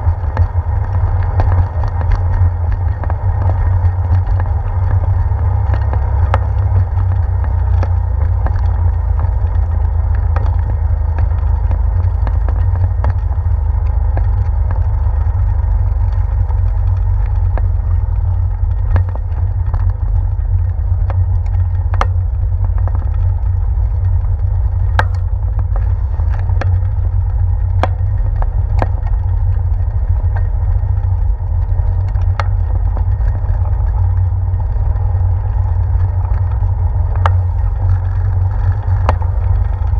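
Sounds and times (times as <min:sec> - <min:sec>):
bicycle rumbling on boardwalk: 0:00.0 - 0:39.9
bike clicks and knocks: 0:00.0 - 0:39.9.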